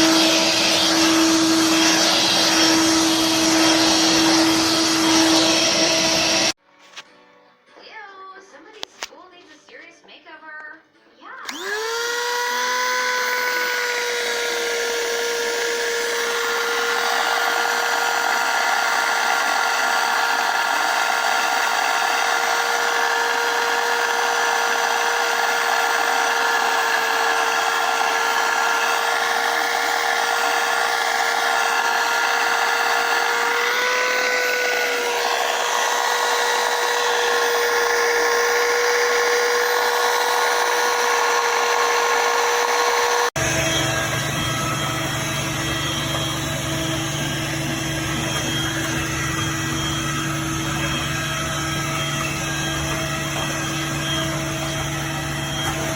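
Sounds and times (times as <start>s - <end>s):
vacuum motor whining: 0.0s - 6.6s, 11.4s - 55.9s.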